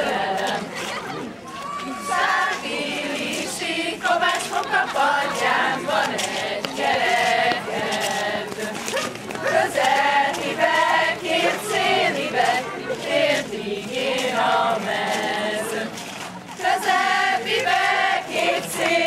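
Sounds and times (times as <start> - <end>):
women singing folk song: 0.0 - 0.9, 1.9 - 19.0.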